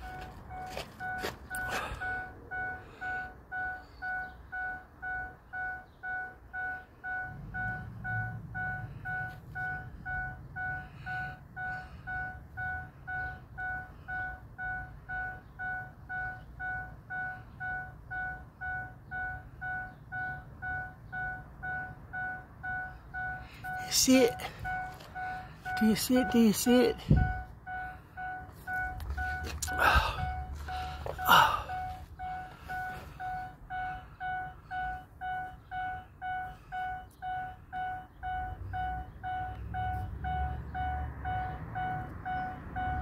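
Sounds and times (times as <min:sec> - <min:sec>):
electronic beeps: 0:00.0 - 0:43.0.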